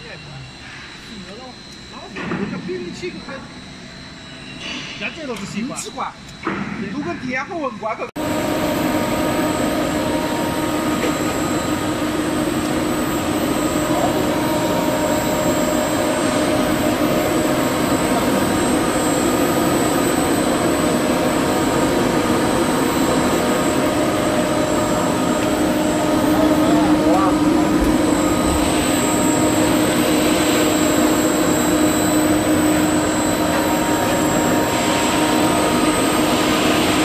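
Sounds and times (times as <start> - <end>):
welding machine hum and whine: 0.0 - 37.0.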